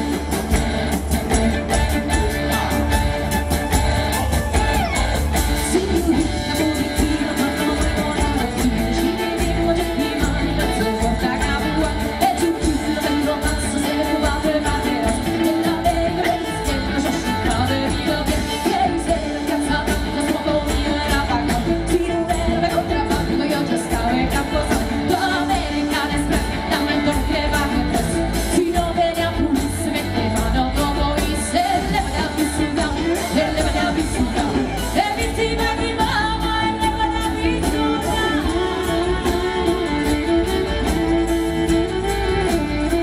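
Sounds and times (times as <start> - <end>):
live pop-rock band playing: 0.0 - 43.0
woman singing: 0.0 - 43.0.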